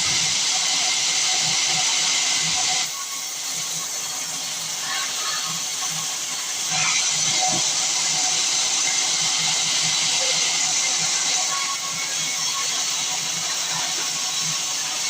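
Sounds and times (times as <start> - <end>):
saw cutting through wood: 0.0 - 15.0.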